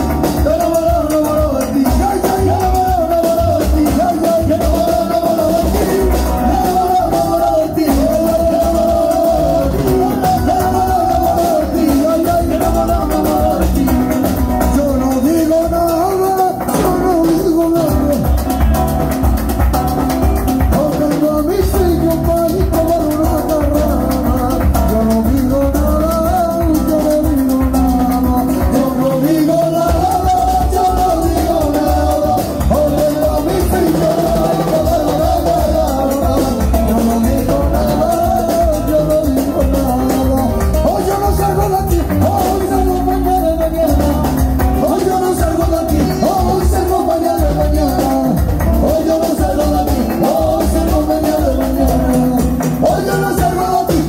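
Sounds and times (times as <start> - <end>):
live band with heavy bass: 0.0 - 54.0
men singing into microphones: 0.0 - 54.0.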